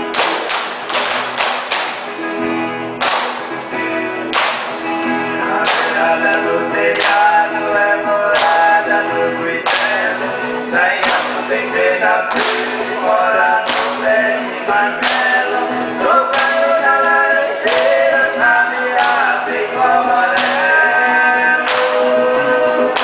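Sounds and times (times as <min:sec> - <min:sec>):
guitars strumming chords: 0:00.0 - 0:23.0
men singing folk song: 0:04.4 - 0:23.0.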